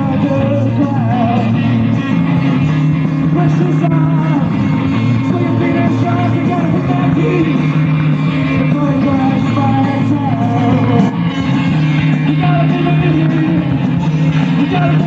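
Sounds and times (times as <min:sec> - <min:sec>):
man singing lead vocals: 0:00.0 - 0:15.0
rock band playing live: 0:00.0 - 0:15.0.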